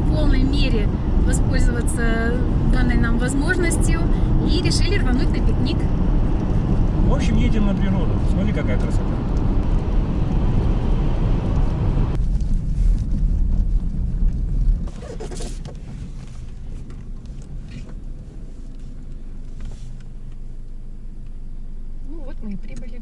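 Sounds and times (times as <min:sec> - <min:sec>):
car road and engine rumble: 0:00.0 - 0:23.0
low hum: 0:00.0 - 0:23.0.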